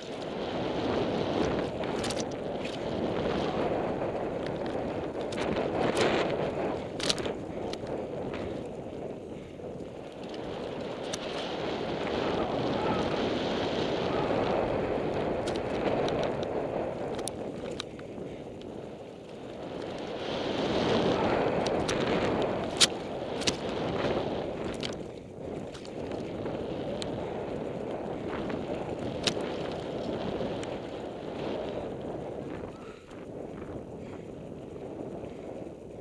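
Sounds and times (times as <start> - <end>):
bike clicks and rattles: 0.0 - 36.0
tyres rolling on dirt: 0.0 - 36.0
wind rushing over microphone: 0.0 - 36.0.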